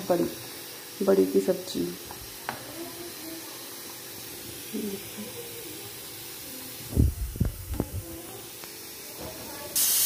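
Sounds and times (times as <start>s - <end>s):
curry simmering hiss: 0.0s - 10.0s.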